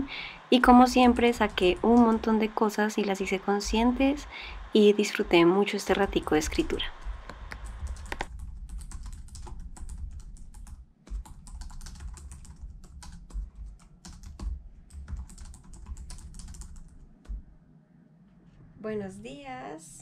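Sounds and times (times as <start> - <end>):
fast laptop keyboard typing: 0.0 - 4.3, 5.2 - 17.4.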